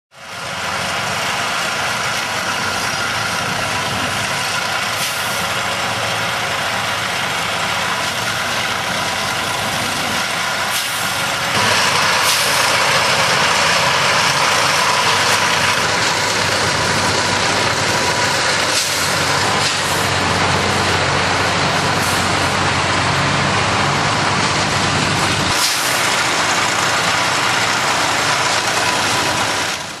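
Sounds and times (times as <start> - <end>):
heavy diesel engines running: 0.1 - 30.0.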